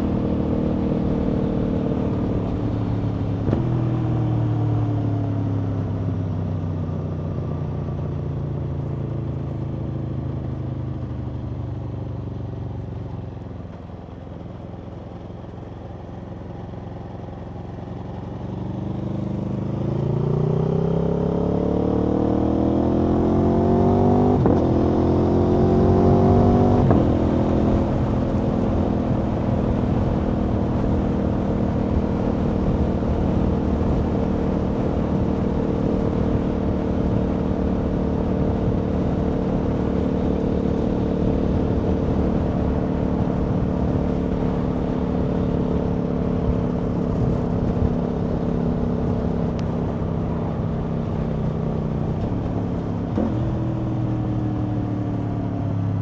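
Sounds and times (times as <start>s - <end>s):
motorcycle engine on the road: 0.0s - 56.0s.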